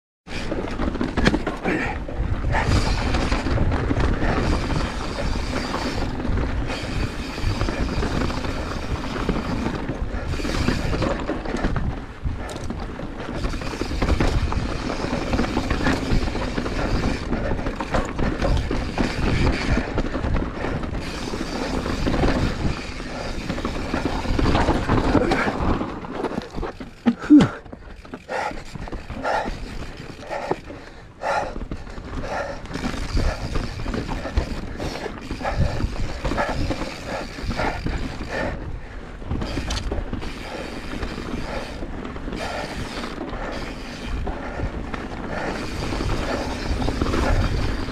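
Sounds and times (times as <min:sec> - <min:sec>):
bike rattling over stones: 0:00.3 - 0:47.9
bike tyre noise on dirt: 0:00.3 - 0:47.9
wind on microphone: 0:00.3 - 0:47.9
person breathing hard: 0:01.6 - 0:47.9.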